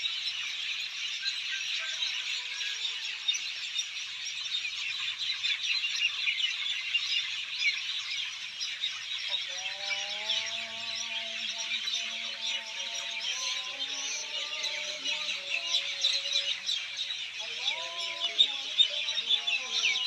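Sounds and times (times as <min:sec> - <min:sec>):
many small birds chirping: 0:00.0 - 0:20.0.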